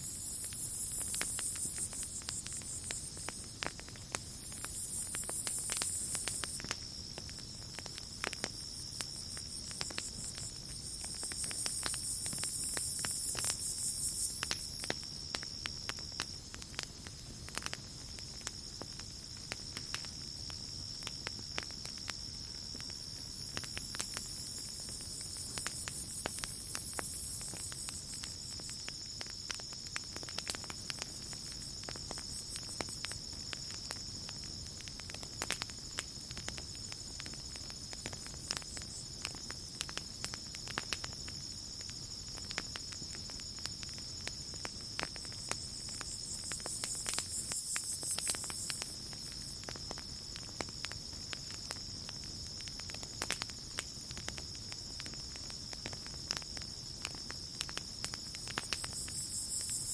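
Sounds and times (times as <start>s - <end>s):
insect pulsing chirp: 0.0s - 55.3s, 56.0s - 59.9s
campfire crackling: 0.0s - 59.9s
cricket trill: 0.0s - 59.9s.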